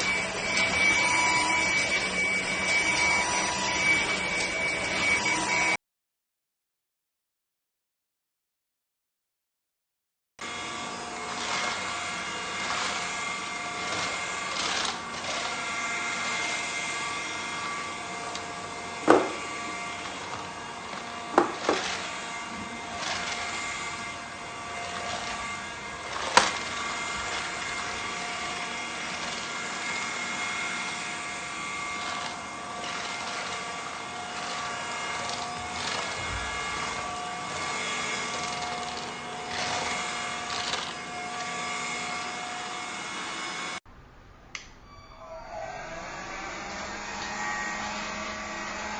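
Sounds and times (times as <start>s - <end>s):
stick vacuum cleaner running: 0.0s - 5.8s, 10.4s - 43.8s, 45.5s - 48.9s.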